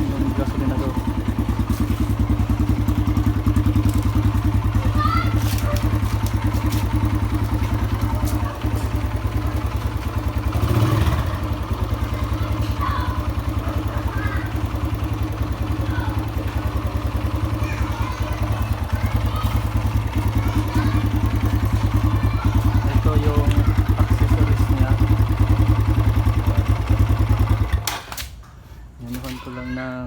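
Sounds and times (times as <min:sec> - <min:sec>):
dirt bike engine idling: 0:00.0 - 0:27.9.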